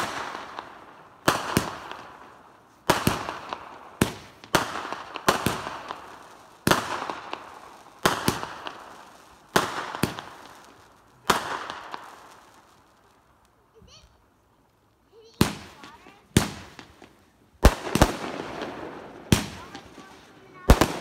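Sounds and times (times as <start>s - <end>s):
crackling fizz of fireworks: 0.0s - 21.0s
fireworks bursting with bangs: 0.0s - 21.0s.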